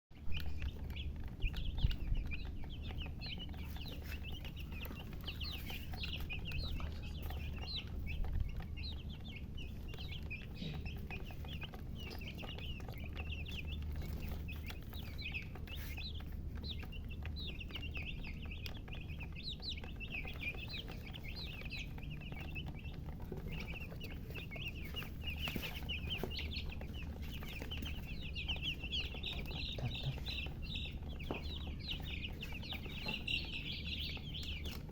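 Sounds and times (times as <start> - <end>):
baby chicks peeping: 0.1 - 34.9
steady low hum: 0.2 - 34.9.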